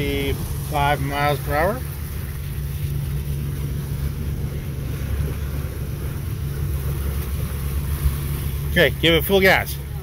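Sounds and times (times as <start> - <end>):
motorboat engine drone: 0.0 - 10.0
wind buffeting microphone: 0.0 - 10.0.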